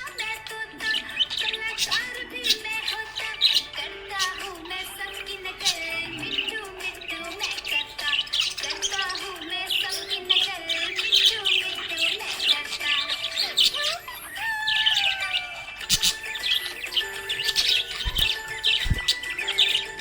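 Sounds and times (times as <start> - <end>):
background music: 0.0 - 20.0
budgerigar chirping and warbling: 0.0 - 20.0.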